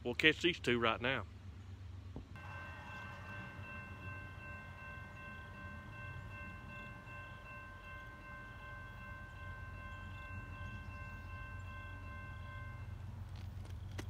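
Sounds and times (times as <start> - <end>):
crossing warning bell ringing: 2.4 - 13.7.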